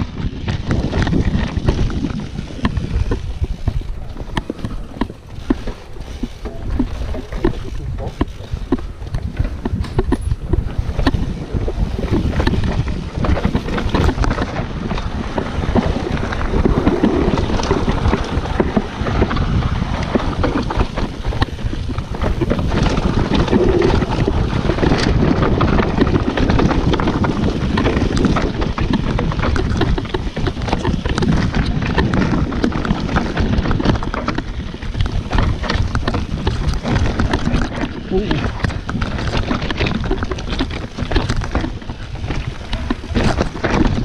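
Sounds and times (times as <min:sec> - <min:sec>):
bike rattling and knocking: 0:00.0 - 0:44.0
tyres crunching over dirt and stones: 0:00.0 - 0:44.0
wind rushing over microphone: 0:00.0 - 0:44.0.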